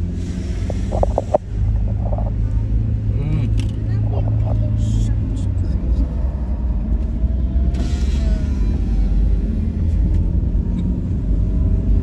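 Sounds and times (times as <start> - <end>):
vehicle tyre and wind rumble: 0.0 - 12.0.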